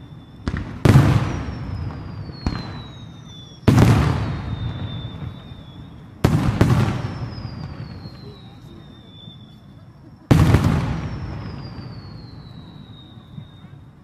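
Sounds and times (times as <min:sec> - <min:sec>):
firework shells booming: 0:00.0 - 0:09.6, 0:10.2 - 0:13.8.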